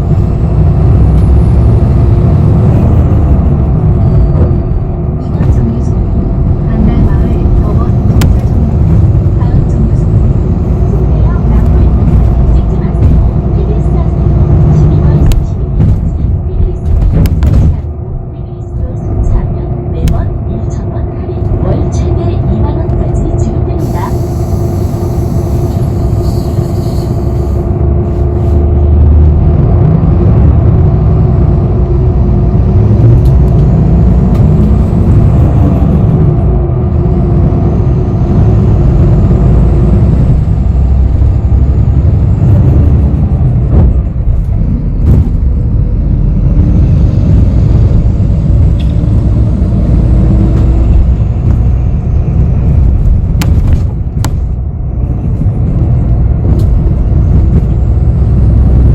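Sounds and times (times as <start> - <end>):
bus engine and road rumble: 0.0 - 58.9
rising engine whine: 0.0 - 58.9.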